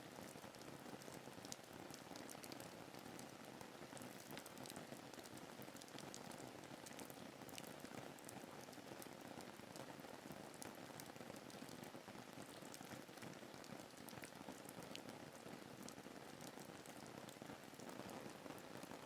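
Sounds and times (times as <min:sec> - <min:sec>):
faint steady rain: 0:00.0 - 0:19.0.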